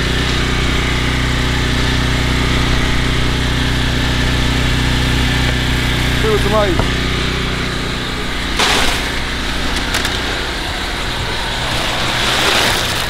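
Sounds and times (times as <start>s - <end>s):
generator engine hum: 0.0s - 13.0s.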